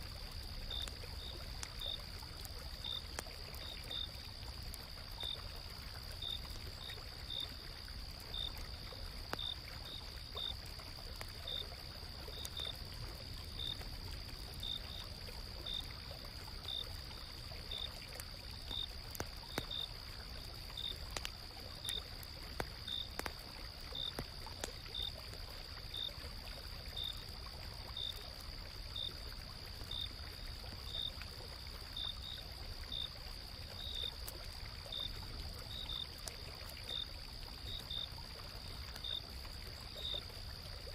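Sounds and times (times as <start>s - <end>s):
cricket chirping: 0.0s - 40.9s
faint campfire crackles: 0.0s - 40.9s.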